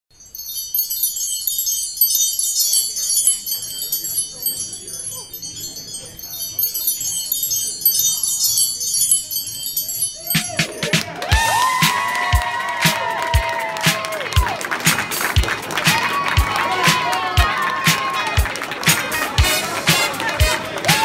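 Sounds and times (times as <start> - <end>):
small bells jingling: 0.1 - 21.0
faint murmur of voices: 2.2 - 21.0.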